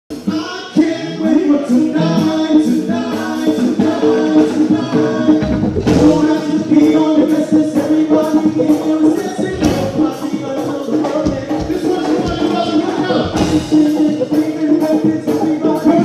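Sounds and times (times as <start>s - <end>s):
live pop band: 0.1s - 16.0s
man singing: 0.1s - 16.0s
drum beat: 2.2s - 16.0s.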